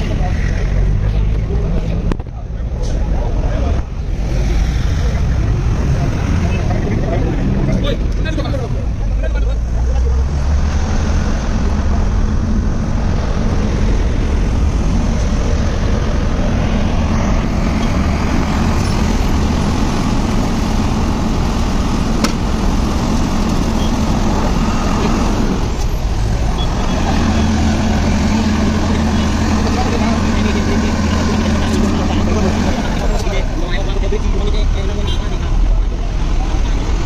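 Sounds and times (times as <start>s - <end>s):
heavy vehicle engine running: 0.0s - 37.0s
road traffic noise: 0.0s - 37.0s.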